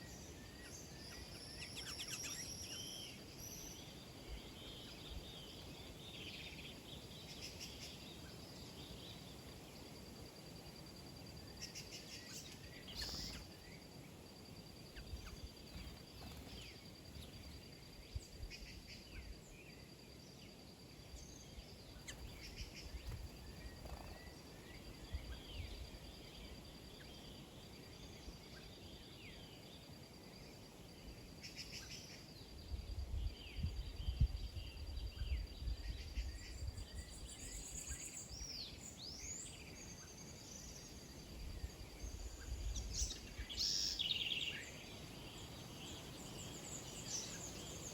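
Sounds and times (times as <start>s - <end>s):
small birds chirping: 0.0s - 32.6s, 33.2s - 47.9s.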